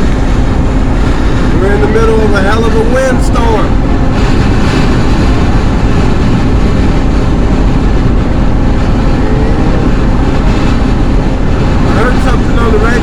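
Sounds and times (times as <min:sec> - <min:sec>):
road and engine rumble: 0:00.0 - 0:13.0
strong wind rushing: 0:00.0 - 0:13.0.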